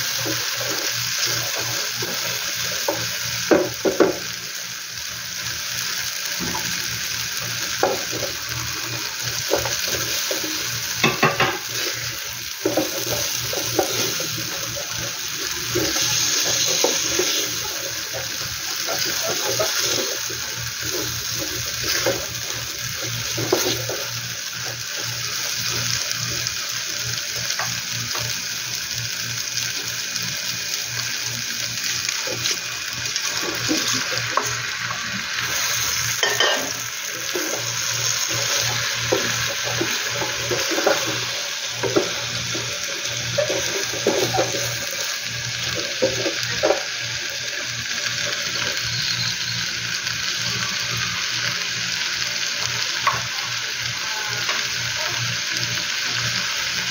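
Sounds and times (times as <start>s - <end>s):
vegetables sizzling in oil: 0.0s - 56.9s.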